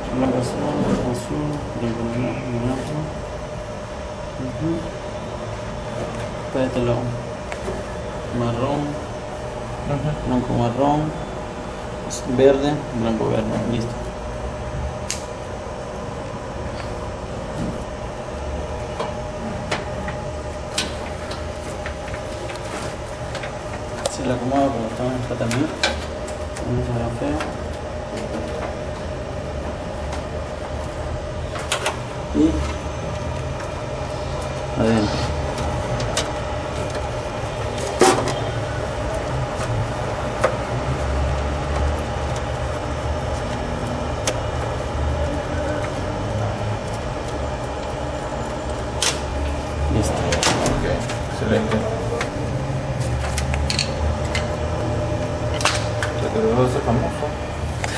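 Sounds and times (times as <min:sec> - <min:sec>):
steady background hum: 0:00.0 - 0:57.9.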